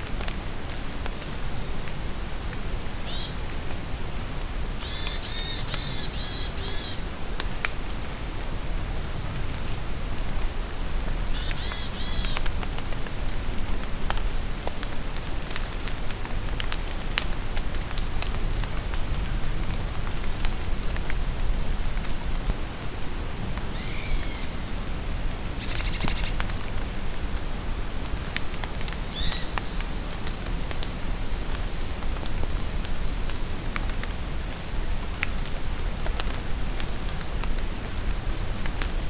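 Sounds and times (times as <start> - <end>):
raindrops dripping: 0.0 - 39.0
steady rain: 0.0 - 39.0.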